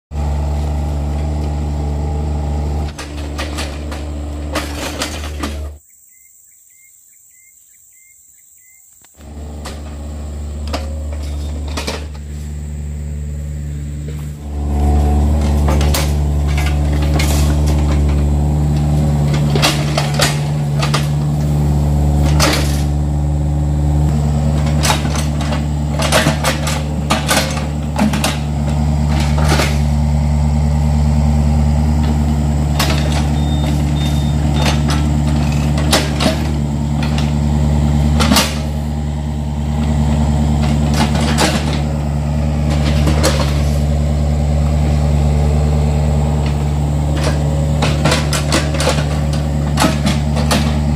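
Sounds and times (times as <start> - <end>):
excavator diesel engine running: 0.1 - 5.8, 9.2 - 50.9.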